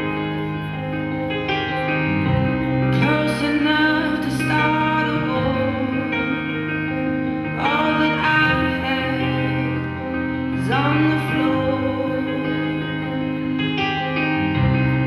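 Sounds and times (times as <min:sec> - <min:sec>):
sustained instrumental chords: 0:00.0 - 0:15.0
person singing: 0:02.9 - 0:15.0.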